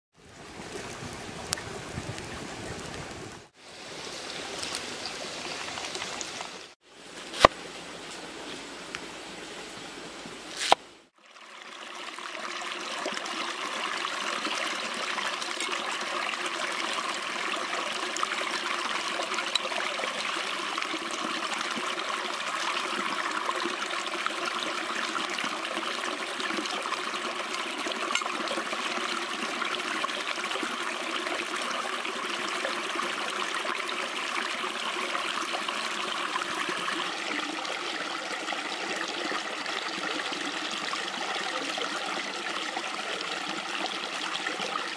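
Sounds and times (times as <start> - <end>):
shallow stream running over stones: 0.2 - 44.9.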